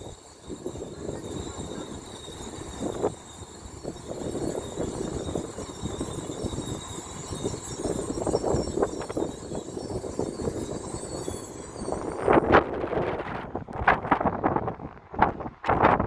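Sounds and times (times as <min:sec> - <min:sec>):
high-pitched whine: 0:00.0 - 0:13.6
train rumbling: 0:00.0 - 0:14.2.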